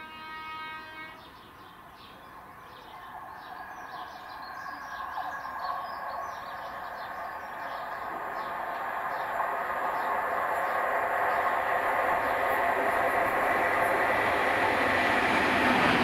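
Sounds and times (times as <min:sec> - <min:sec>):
electric train running on rails: 0:00.0 - 0:16.0
birds chirping: 0:00.4 - 0:16.0.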